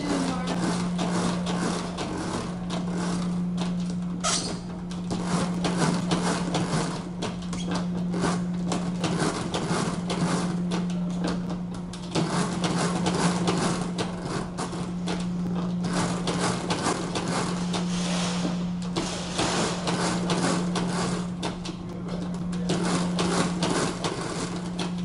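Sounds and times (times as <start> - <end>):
mechanical calculator clatter: 0.0 - 17.9, 18.8 - 25.0
calculator motor hum: 0.0 - 25.0.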